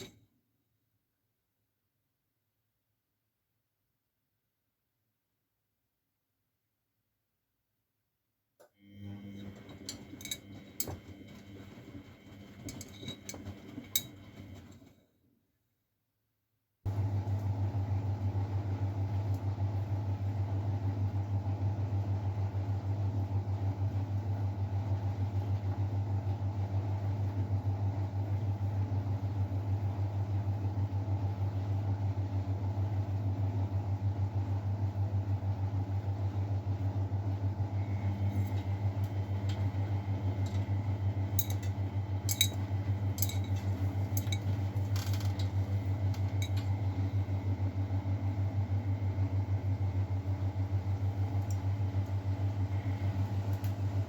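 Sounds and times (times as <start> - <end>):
washing machine humming: 8.8 - 15.1, 16.9 - 54.0.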